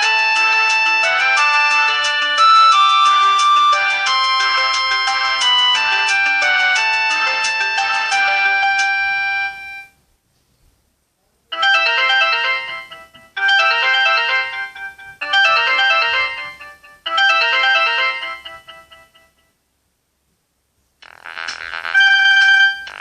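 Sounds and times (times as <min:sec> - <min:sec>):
phone ringtone melody: 0:00.0 - 0:10.0, 0:11.5 - 0:19.5, 0:21.0 - 0:23.0.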